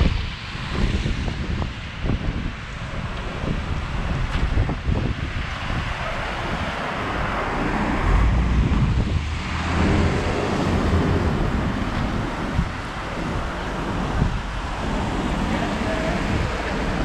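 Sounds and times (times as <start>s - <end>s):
traffic hiss on wet road: 0.0s - 17.0s
wind buffeting microphone: 0.0s - 17.0s.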